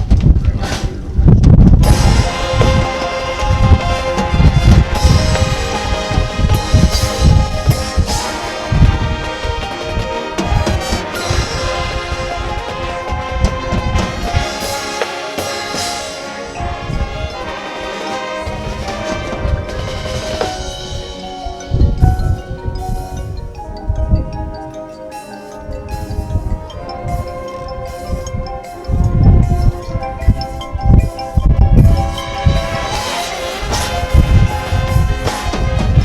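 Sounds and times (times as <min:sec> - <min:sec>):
brass sustained chords: 0:00.0 - 0:36.0
marching band playing: 0:00.0 - 0:36.0
mallet percussion notes: 0:01.6 - 0:36.0.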